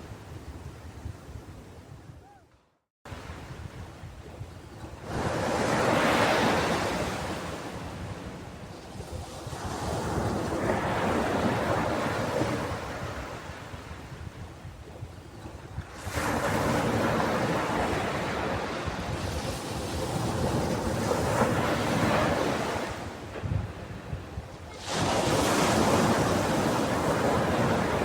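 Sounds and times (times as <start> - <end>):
ocean waves breaking on beach: 3.1 - 28.0.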